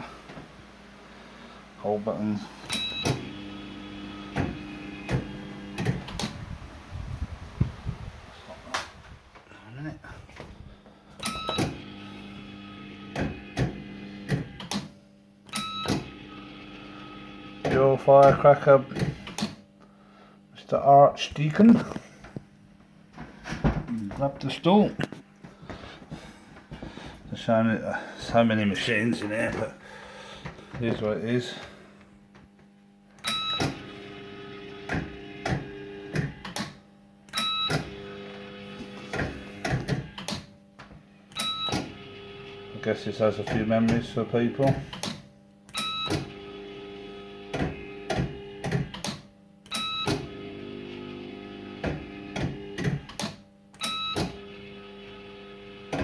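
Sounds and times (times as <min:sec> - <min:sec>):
fruit machine hum: 0:00.0 - 0:56.0.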